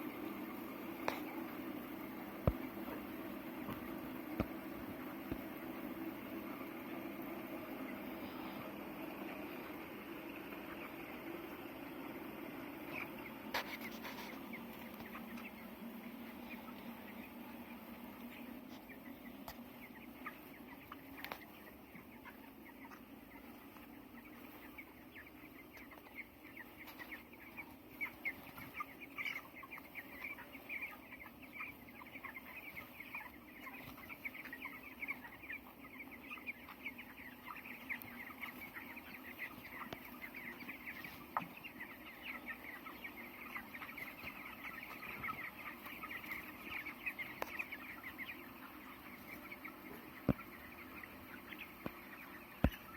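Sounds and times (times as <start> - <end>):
chicks cheeping and chirping: 0.0 - 52.9
steady low hum: 0.0 - 52.9.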